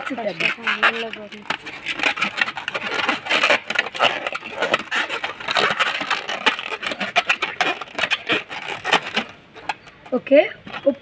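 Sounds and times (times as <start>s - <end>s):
rubber balloon creaking: 0.0s - 11.0s.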